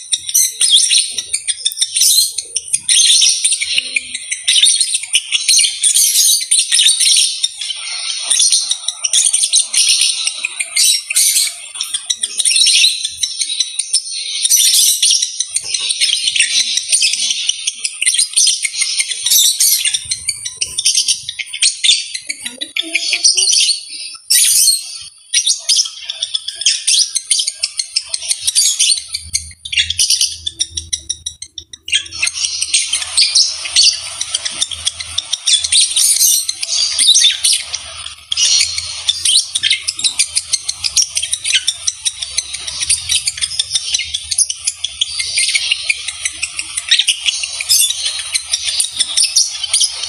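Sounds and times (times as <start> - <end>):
lovebirds chirping and squeaking: 0.0 - 50.0.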